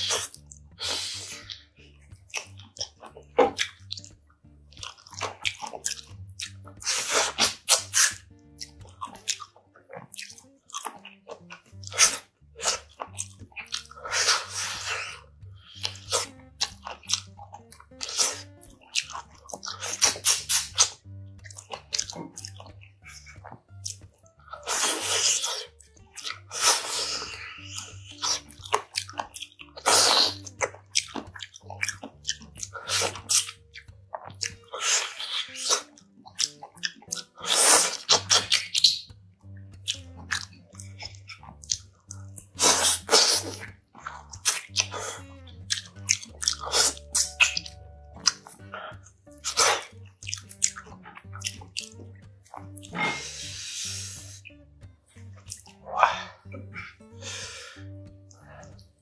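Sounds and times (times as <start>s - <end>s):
chewing: 0.0s - 59.0s
sucking and slurping: 0.0s - 59.0s.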